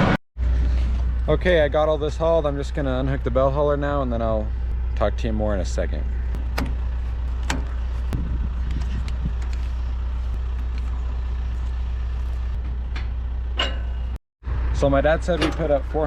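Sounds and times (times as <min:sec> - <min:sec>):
tractor engine idling: 0:00.4 - 0:16.0.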